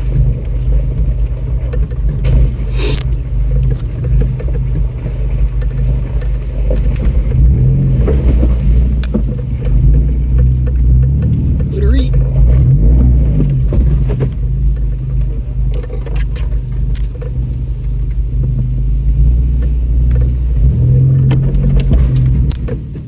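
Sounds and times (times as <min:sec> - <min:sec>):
clunks and rattles from vehicle body: 0:00.0 - 0:23.0
off-road vehicle engine running: 0:00.0 - 0:23.0.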